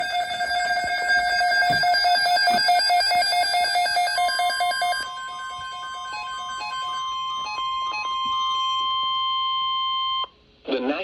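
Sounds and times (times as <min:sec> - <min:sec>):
rapid repeated beeps: 0:00.0 - 0:10.3
steady warning tone: 0:00.0 - 0:10.3.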